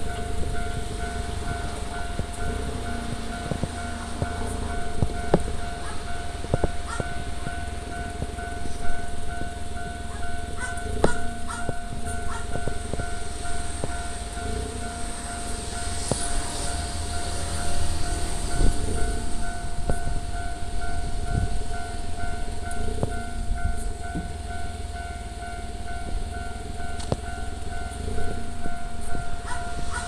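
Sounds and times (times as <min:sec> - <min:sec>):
level-crossing warning bell: 0:00.0 - 0:30.0.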